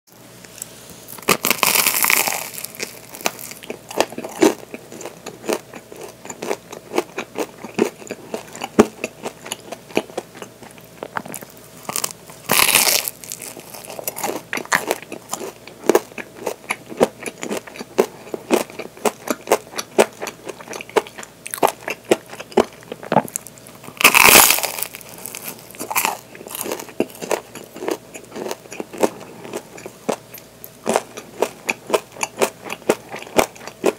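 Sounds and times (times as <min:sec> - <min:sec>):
crunchy chewing: 0:00.4 - 0:33.9
crunching bites of waffle: 0:01.1 - 0:30.3.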